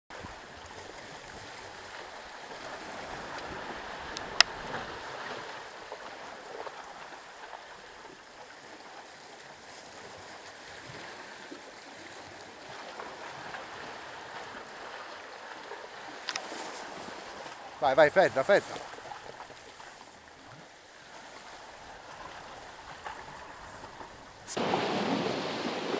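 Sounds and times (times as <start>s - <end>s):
sea lapping against rocks: 0.1s - 25.9s.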